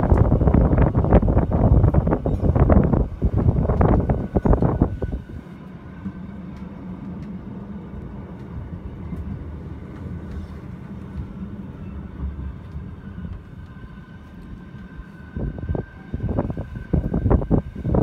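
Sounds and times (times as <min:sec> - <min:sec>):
train running gear rumble: 0:00.0 - 0:18.0.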